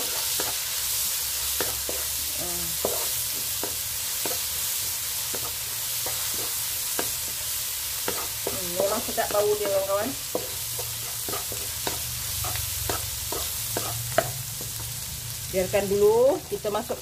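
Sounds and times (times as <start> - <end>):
garlic sizzling in hot oil: 0.0 - 17.0
spatula scraping a wok: 0.0 - 17.0.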